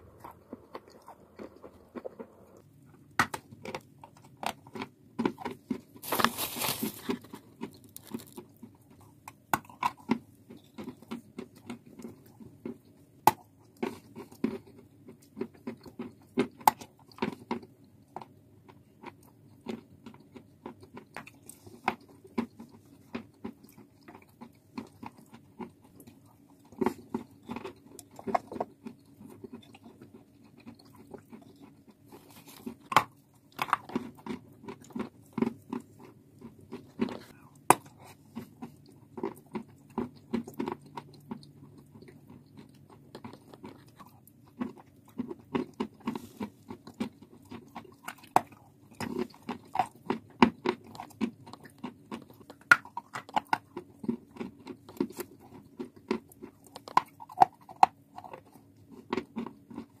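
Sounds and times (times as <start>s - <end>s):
chalk crunching while chewing: 0.0s - 60.0s.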